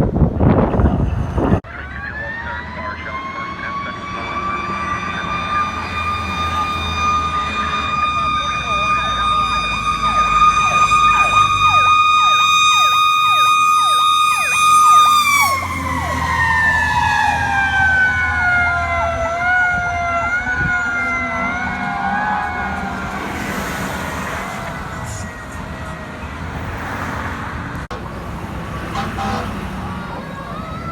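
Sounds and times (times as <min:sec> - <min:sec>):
steady high siren tone: 0:00.4 - 0:26.8, 0:28.8 - 0:30.9
siren yelp sweeping up and down: 0:00.4 - 0:27.2, 0:28.8 - 0:30.9.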